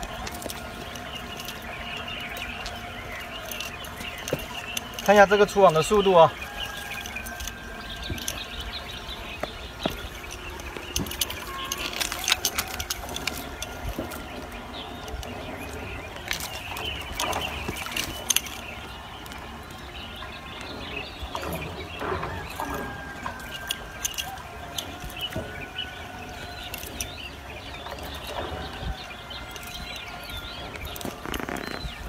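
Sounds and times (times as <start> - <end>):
birds calling: 0.0 - 32.0
cast net clicks and rustles: 0.0 - 32.0.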